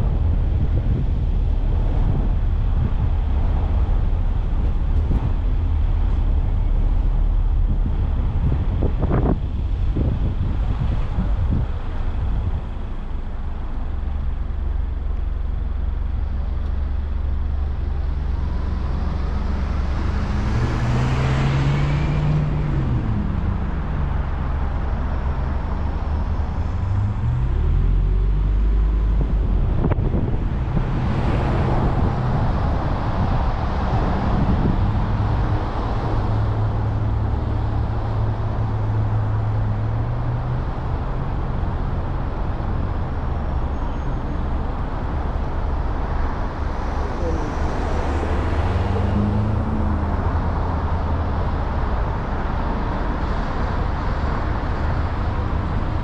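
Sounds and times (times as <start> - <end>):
car engine and tyre noise: 0.0 - 56.0
vehicles passing close by: 0.0 - 56.0.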